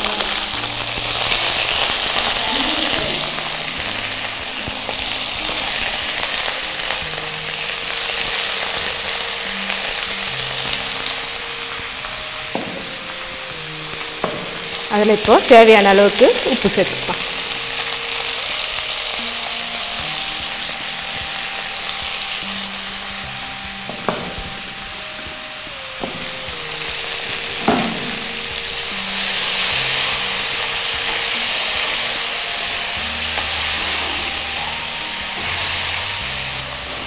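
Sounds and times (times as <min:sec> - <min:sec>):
soft background music: 0:00.0 - 0:37.0
vegetables sizzling in a wok: 0:00.0 - 0:37.0.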